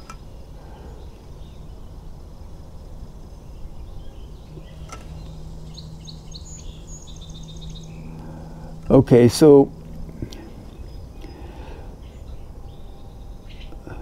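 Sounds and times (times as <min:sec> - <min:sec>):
bird chirping: 0:00.0 - 0:14.0
steady low rumble: 0:00.0 - 0:14.0.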